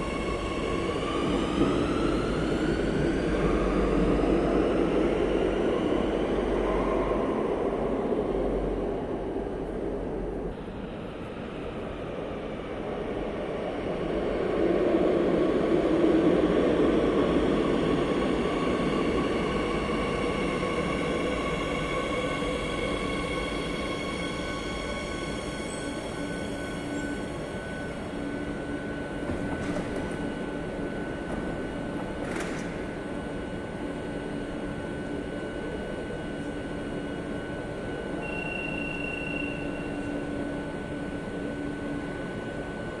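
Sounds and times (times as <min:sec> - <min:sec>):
metro train rumble: 0:00.0 - 0:43.0
train whine of held tones: 0:00.0 - 0:43.0.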